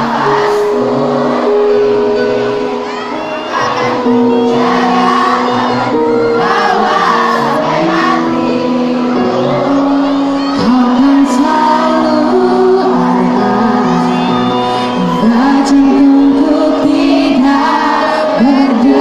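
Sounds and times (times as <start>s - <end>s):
man and woman singing duet: 0.0s - 2.6s, 3.5s - 19.0s
live pop band: 0.0s - 19.0s.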